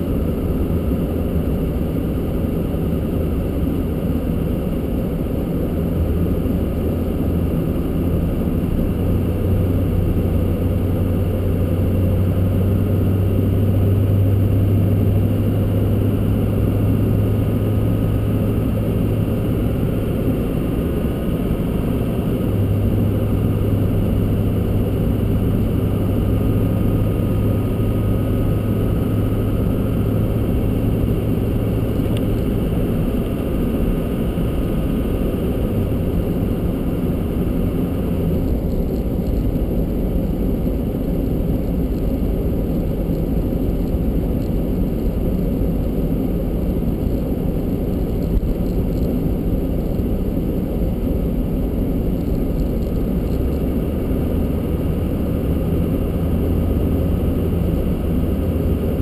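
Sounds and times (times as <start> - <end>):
car engine hum: 0.0 - 59.0.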